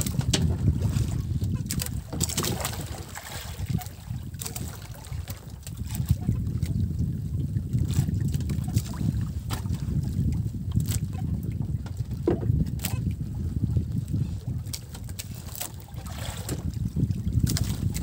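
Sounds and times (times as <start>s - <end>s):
water moving around boat: 0.0s - 18.0s
wind buffeting microphone: 0.0s - 18.0s.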